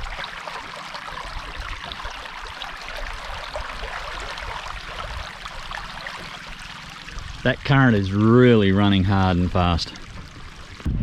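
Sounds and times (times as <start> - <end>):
river current rushing and gurgling: 0.0 - 11.0.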